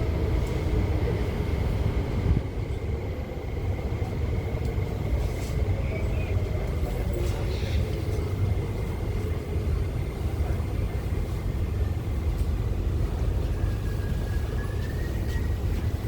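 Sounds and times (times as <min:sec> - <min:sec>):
electric train running on rails: 0:00.0 - 0:16.0.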